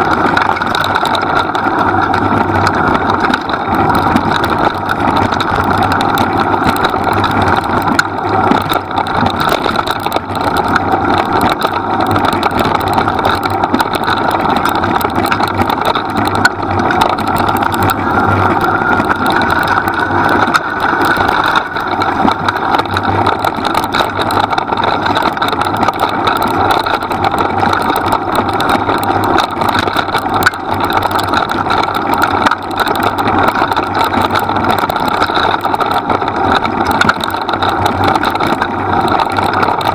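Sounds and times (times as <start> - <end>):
training rig rumbling and rattling: 0.0 - 39.9.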